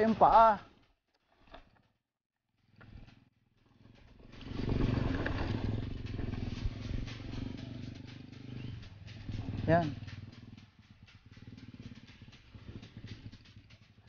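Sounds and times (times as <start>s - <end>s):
bike rattling: 2.6s - 14.0s.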